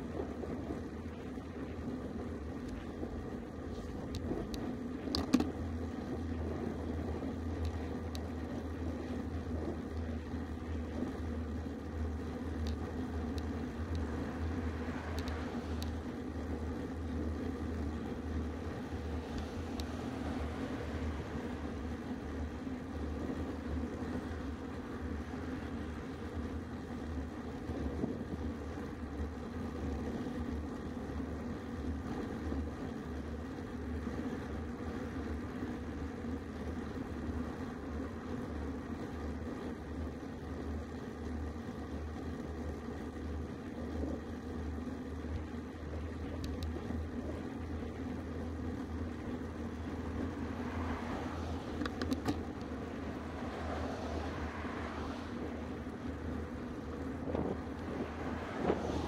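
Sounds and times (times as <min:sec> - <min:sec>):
bike tyres rolling on asphalt: 0:00.0 - 0:59.0
wind rumble on microphone: 0:00.0 - 0:59.0
faint ticks: 0:00.2 - 0:20.6, 0:22.9 - 0:59.0.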